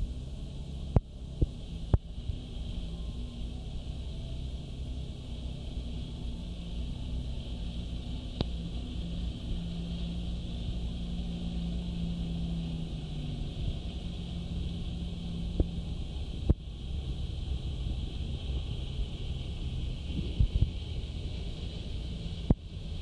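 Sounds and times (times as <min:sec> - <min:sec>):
jet ski engines humming: 0:00.0 - 0:23.0.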